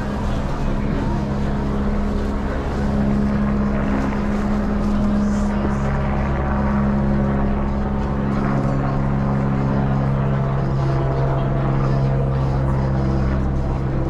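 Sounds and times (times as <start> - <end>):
street background noise: 0.0 - 14.0.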